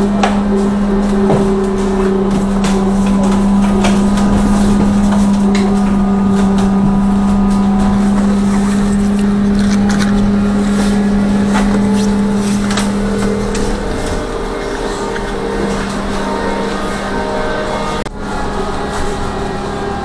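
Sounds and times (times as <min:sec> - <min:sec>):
clicks and rattles from bus body: 0:00.0 - 0:16.8
low road rumble: 0:00.0 - 0:20.0
steady electric hum: 0:00.0 - 0:20.0.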